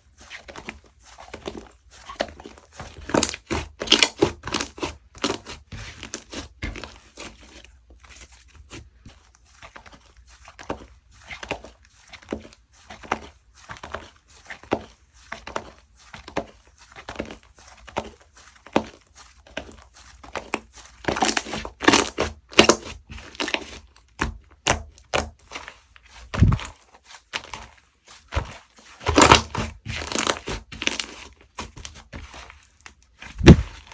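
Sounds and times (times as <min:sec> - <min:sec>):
slime squishing by hand: 0:00.0 - 0:33.9.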